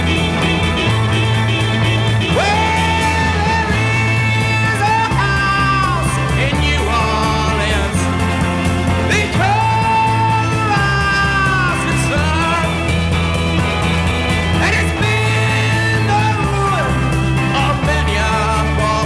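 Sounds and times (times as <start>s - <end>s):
male singer belting: 0.0s - 19.0s
rock band playing: 0.0s - 19.0s.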